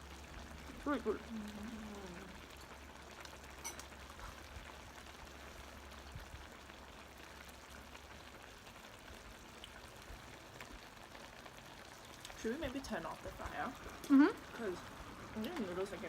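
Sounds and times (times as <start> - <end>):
stew bubbling in pot: 0.0 - 16.0.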